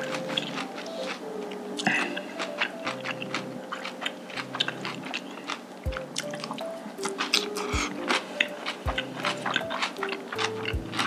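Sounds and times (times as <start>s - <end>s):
light background music: 0.0s - 11.0s
wet chewing: 0.0s - 11.0s.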